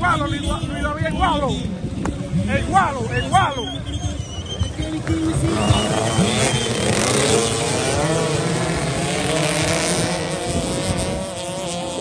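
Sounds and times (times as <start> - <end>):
motorbike engines whining: 0.0 - 12.0.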